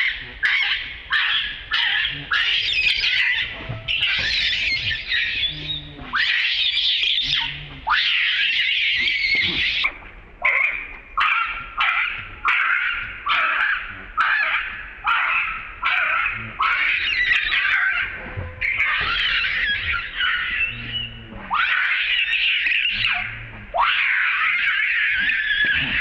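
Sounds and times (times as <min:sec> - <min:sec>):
baby monkey screaming: 0:00.0 - 0:26.0.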